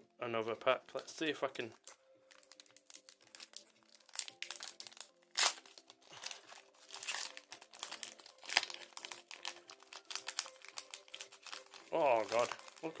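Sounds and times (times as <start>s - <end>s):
wrapper crinkling and tearing: 1.7s - 13.0s.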